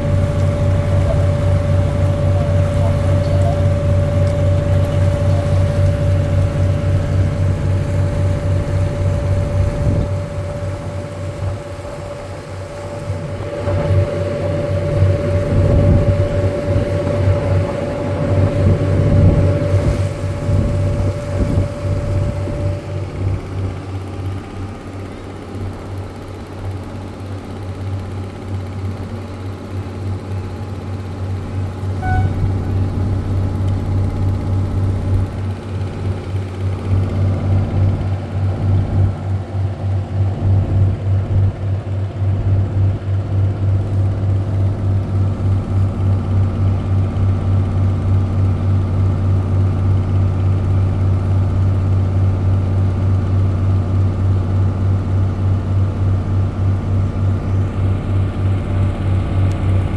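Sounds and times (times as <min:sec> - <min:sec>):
high-pitched whine: 0:00.0 - 0:51.6
boat engine droning: 0:00.0 - 0:59.9.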